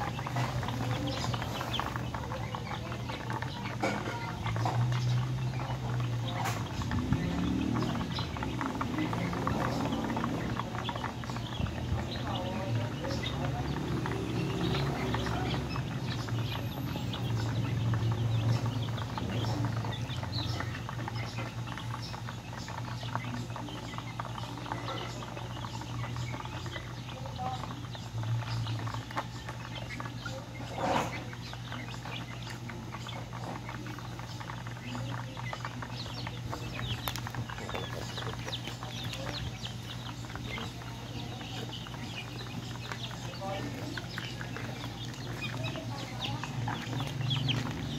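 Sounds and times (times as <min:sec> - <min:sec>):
chicks peeping and chirping: 0:00.0 - 0:47.9.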